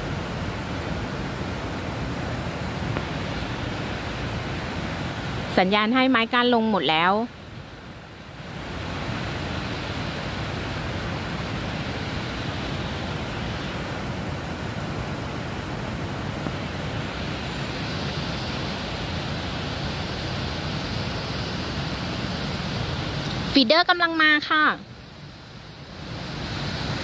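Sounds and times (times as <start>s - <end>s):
low rumble of road traffic: 0.0s - 27.0s.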